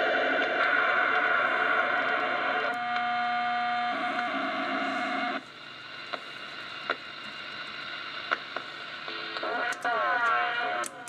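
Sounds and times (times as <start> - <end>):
radio band noise: 0.0 - 11.0
static clicks: 0.3 - 11.0.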